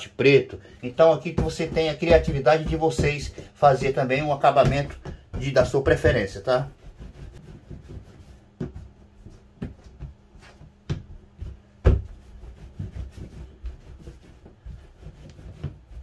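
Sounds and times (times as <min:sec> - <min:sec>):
hands rubbing dough: 0:00.8 - 0:16.0.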